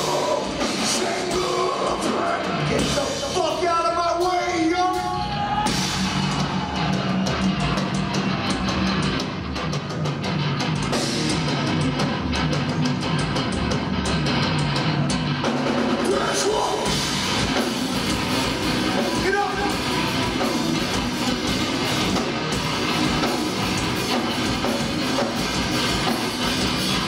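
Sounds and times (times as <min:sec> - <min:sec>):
distorted electric guitars and bass: 0:00.0 - 0:27.0
drum kit with cymbal hits: 0:00.0 - 0:27.0.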